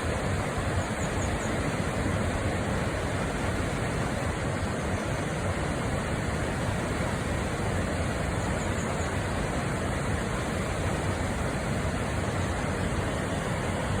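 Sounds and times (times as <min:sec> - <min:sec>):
water cascades roaring: 0:00.0 - 0:14.0.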